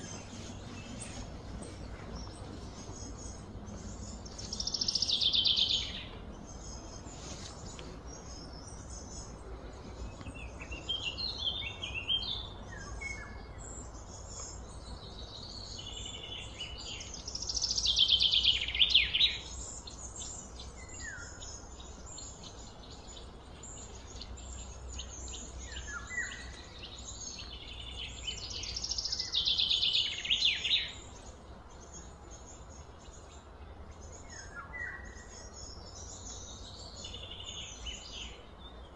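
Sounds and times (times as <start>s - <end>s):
bird chirps: 0.0s - 38.9s
low background noise: 0.0s - 38.9s.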